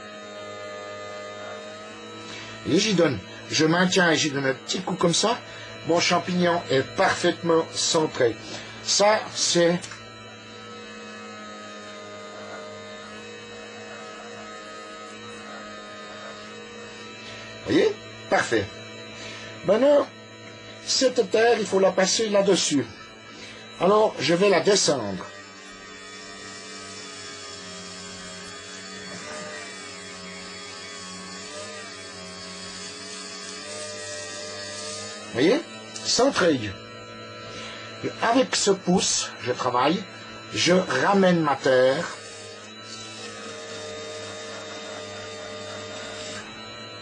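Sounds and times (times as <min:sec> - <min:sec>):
potter's wheel humming: 0:00.0 - 0:47.0.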